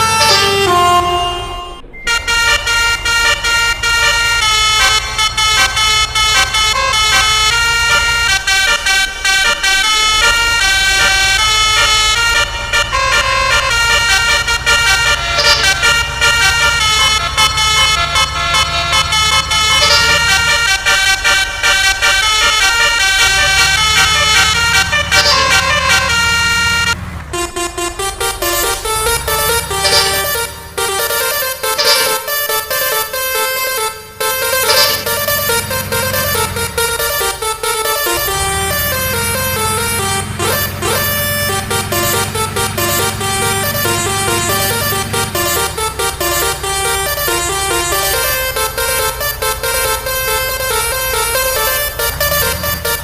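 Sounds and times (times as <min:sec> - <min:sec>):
multi-tone horn playing a tune: 0:00.0 - 0:53.0.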